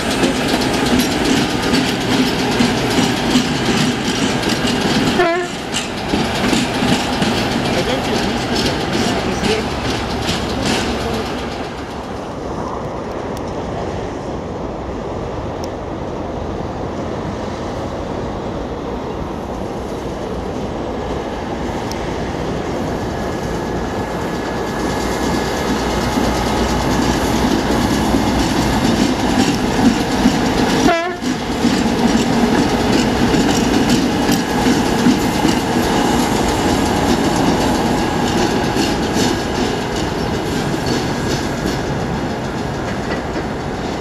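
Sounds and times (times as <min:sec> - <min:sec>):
wheels clicking over rail joints: 0:00.0 - 0:14.2, 0:19.0 - 0:44.0
diesel locomotive engine: 0:00.0 - 0:44.0.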